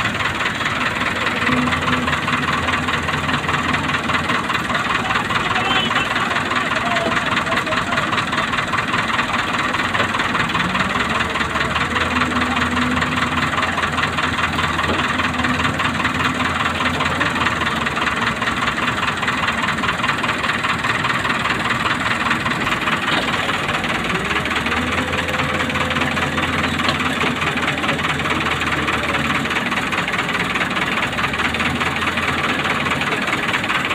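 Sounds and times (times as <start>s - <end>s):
excavator diesel engine labouring: 0.0s - 33.9s.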